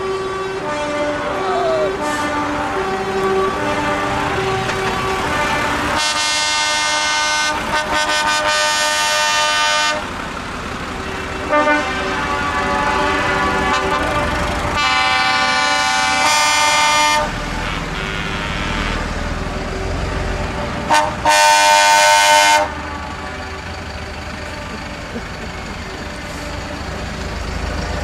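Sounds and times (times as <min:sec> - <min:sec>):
truck horn blasts: 0:00.0 - 0:10.2, 0:11.4 - 0:27.2
low engine rumble: 0:00.1 - 0:28.0.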